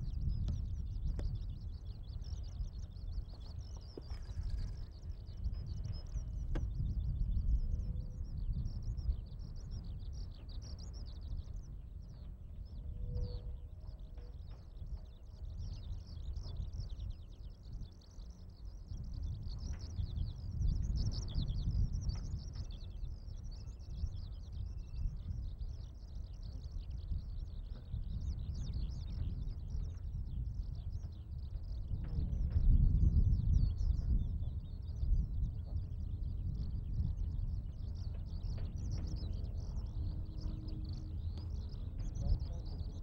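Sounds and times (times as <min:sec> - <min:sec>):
skylark singing: 0:00.0 - 0:43.0
steady low rumble: 0:00.0 - 0:43.0.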